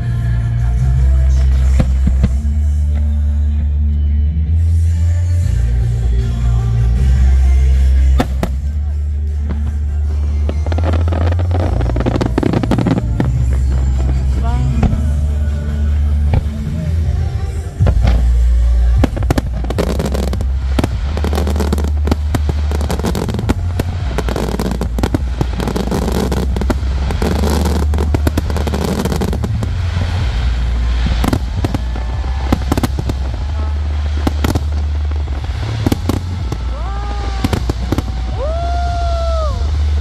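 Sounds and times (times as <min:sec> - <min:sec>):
fireworks bangs and crackles: 0:00.0 - 0:03.9, 0:05.6 - 0:40.0
low rumble: 0:00.0 - 0:40.0.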